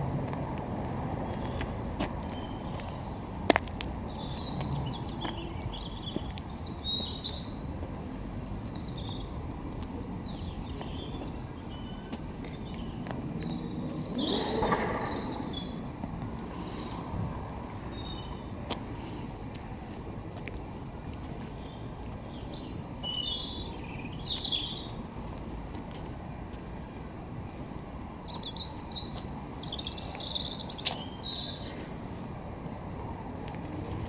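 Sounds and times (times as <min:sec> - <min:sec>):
songbirds singing and chirping: 0:00.0 - 0:34.0.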